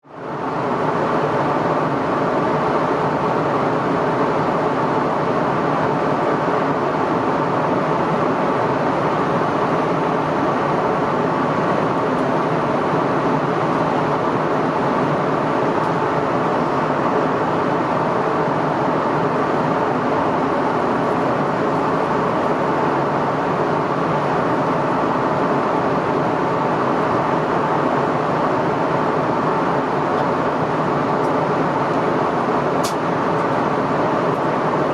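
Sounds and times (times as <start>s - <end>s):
airliner cabin rushing hum: 0.1s - 34.9s.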